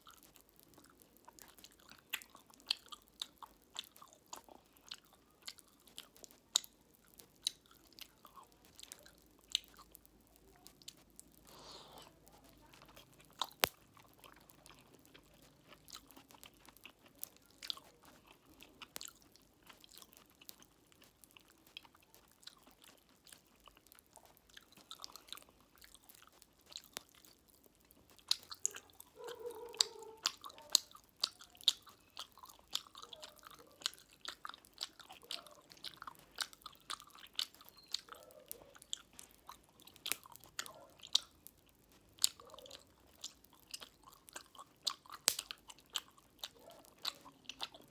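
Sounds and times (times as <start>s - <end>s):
popping candy crackling: 0.0s - 47.9s
wet chewing: 0.0s - 47.9s.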